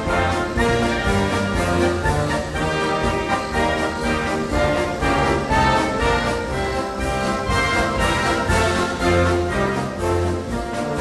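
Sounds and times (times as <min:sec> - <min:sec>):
orchestral music with brass: 0:00.0 - 0:11.0.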